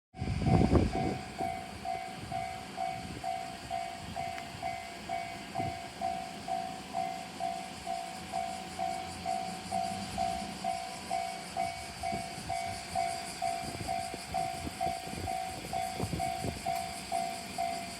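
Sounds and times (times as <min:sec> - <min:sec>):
level crossing warning bell: 0:00.2 - 0:17.9.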